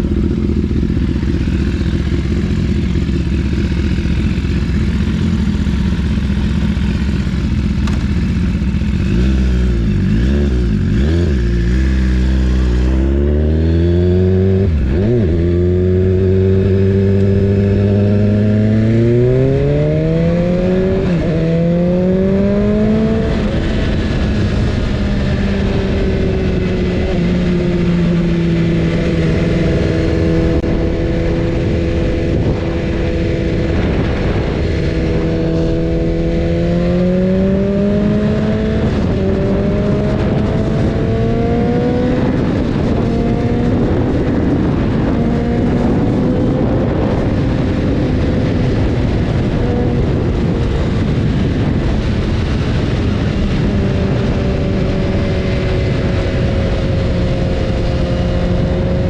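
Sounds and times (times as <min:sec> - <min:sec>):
motorcycle engine accelerating: 0:00.0 - 0:59.0
steady rushing noise: 0:00.0 - 0:59.0.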